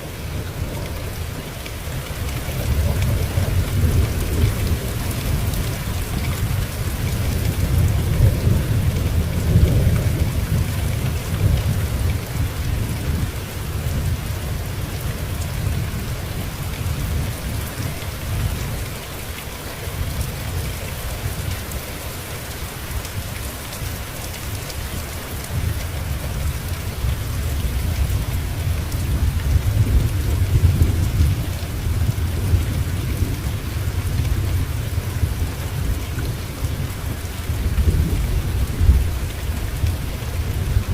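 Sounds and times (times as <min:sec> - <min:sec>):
rolling thunder rumble: 0:00.0 - 0:40.9
steady rain hissing: 0:00.0 - 0:40.9.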